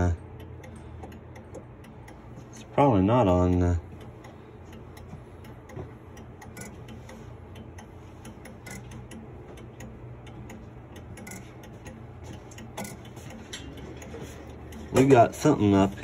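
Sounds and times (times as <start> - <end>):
grandfather clock ticking: 0.0 - 16.0
steady low hum: 0.0 - 16.0.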